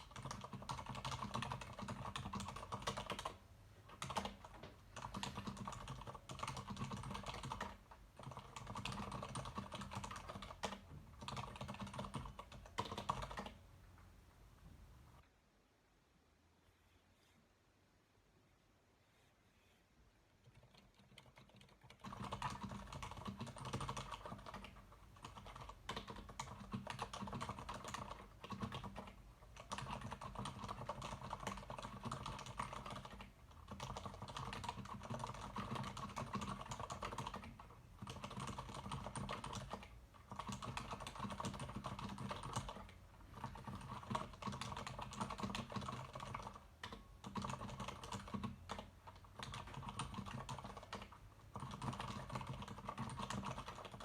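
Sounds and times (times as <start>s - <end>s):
muted keyboard typing: 0.0s - 13.6s, 20.4s - 54.0s.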